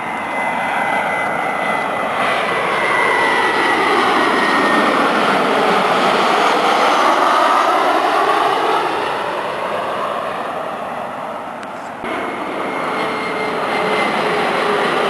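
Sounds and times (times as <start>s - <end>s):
airliner engine whine: 0.0s - 15.0s
jet noise overhead: 0.0s - 15.0s.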